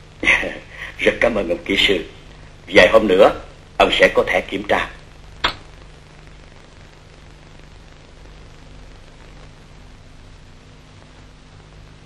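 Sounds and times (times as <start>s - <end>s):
film soundtrack hiss: 0.0s - 12.0s
low even hum: 0.0s - 12.0s.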